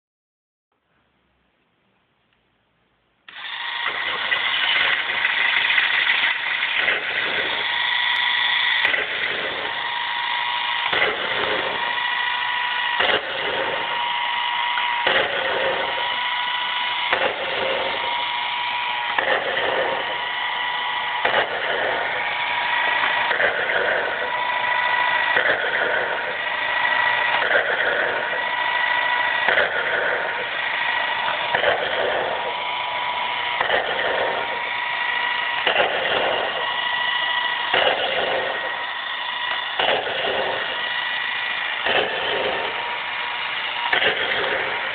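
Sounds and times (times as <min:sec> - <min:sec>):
motor switch click: 0:03.3 - 0:44.9
small electric motor whining: 0:03.3 - 0:44.9.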